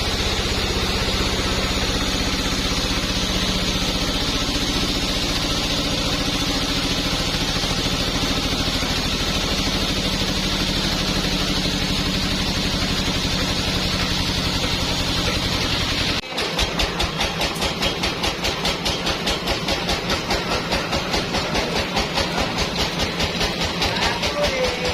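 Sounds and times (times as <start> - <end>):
sawmill engine running: 0.0 - 24.9.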